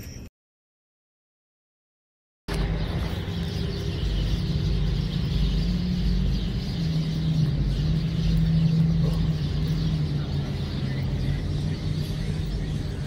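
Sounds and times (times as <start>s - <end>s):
low hum with rumble: 2.5s - 13.0s.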